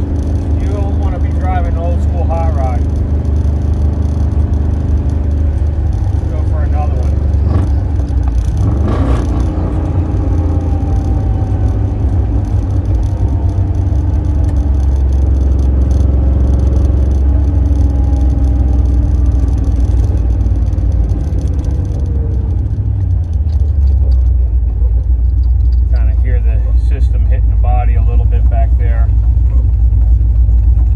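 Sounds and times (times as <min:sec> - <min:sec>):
car engine droning inside car: 0:00.0 - 0:30.9.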